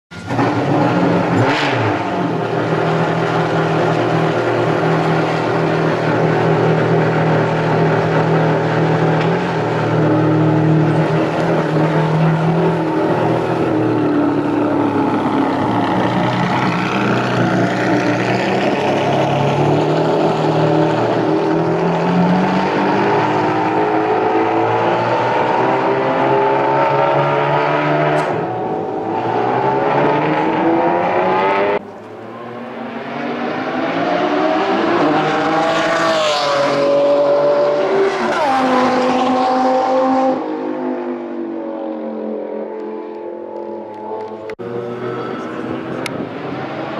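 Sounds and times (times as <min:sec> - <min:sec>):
car engine revving: 0:00.2 - 0:46.9.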